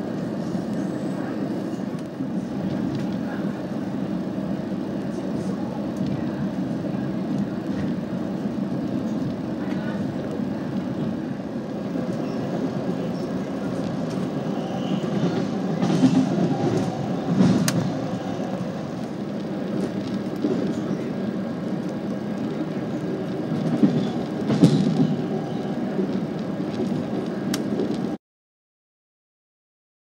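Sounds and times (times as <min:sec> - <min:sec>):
passing train coaches: 0:00.0 - 0:28.2
train rumbling on rails: 0:00.0 - 0:28.2.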